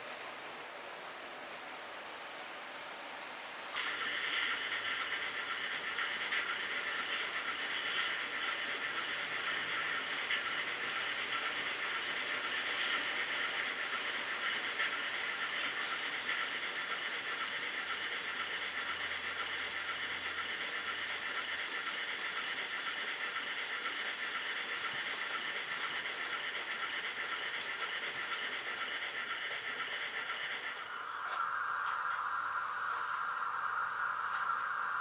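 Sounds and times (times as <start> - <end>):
low hiss: 0.0 - 35.0
wheels running on rails: 0.0 - 35.0
model train motor whir: 3.7 - 35.0.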